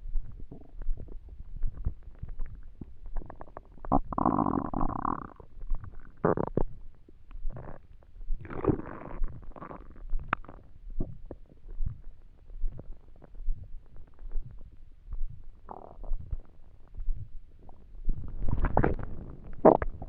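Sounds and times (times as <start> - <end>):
stomach growling and gurgling: 0.0 - 20.0.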